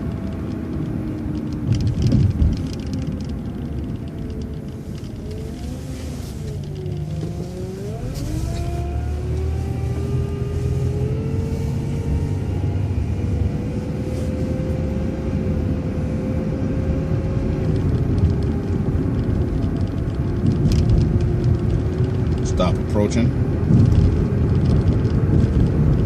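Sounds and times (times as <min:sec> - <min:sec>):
bus engine accelerating: 0:00.0 - 0:26.0.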